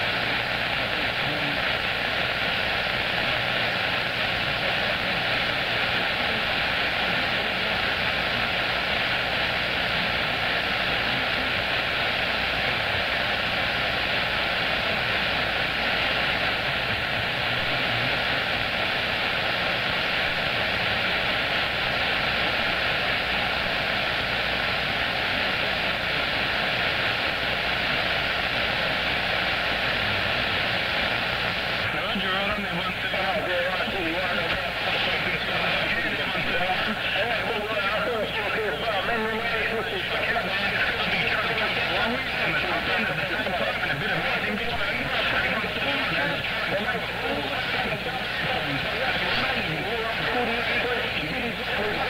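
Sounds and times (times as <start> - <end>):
radio static hiss: 0.0 - 52.0.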